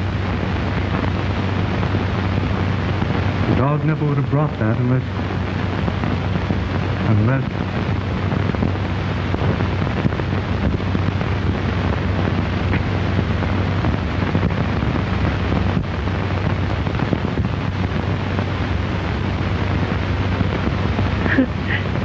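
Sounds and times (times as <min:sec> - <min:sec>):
faint crackles: 0:00.0 - 0:22.0
film soundtrack hiss and hum: 0:00.0 - 0:22.0.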